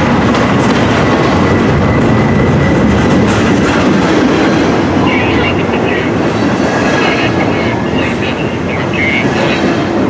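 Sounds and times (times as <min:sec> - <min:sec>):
steel train wheels rumbling on rails: 0:00.0 - 0:10.0.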